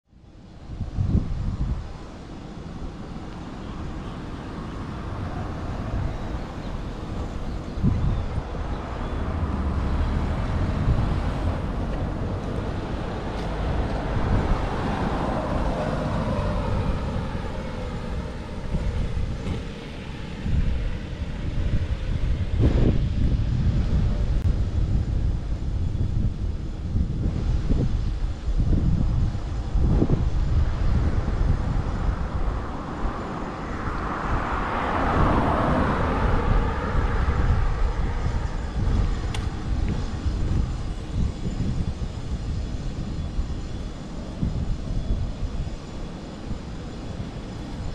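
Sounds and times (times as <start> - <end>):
airplane engines passing overhead: 0.1 - 47.9
steady low rumble: 0.1 - 47.9
falling engine whine: 0.4 - 47.9.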